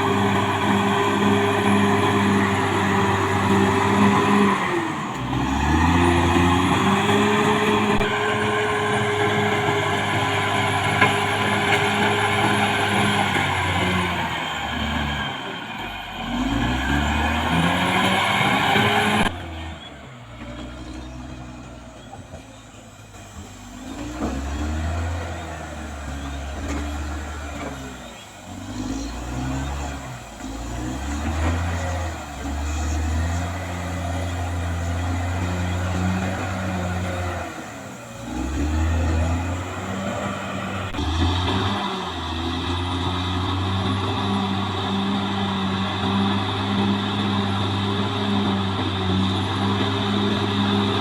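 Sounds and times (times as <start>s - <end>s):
bulldozer diesel engine under load: 0.0s - 51.0s.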